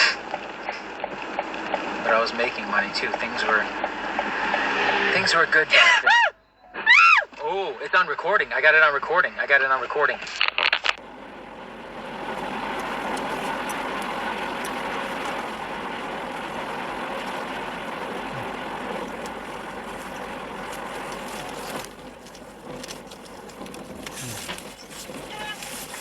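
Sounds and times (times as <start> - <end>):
vehicle road and engine noise: 0.0 - 6.1, 7.3 - 26.0.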